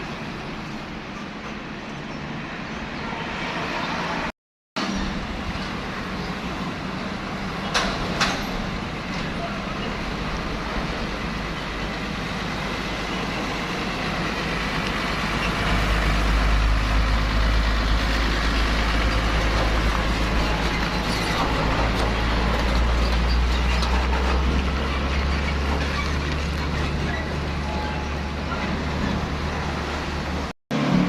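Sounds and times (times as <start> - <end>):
truck engines rumbling: 0.0 - 31.0.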